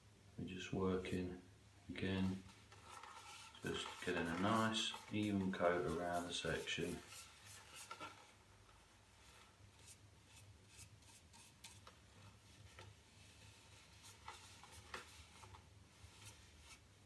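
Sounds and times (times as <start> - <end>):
rubbing and light ticks: 2.2 - 17.0.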